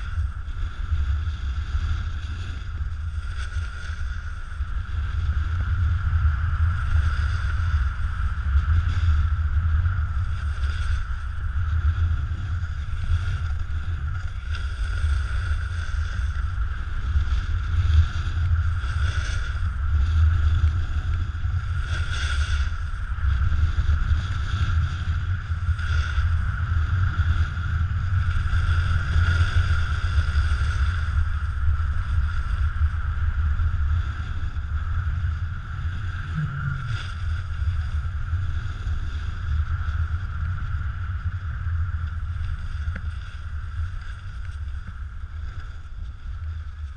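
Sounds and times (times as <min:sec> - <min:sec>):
snowboard sliding on snow: 0:00.0 - 0:46.9
wind rumbling on microphone: 0:00.0 - 0:46.9.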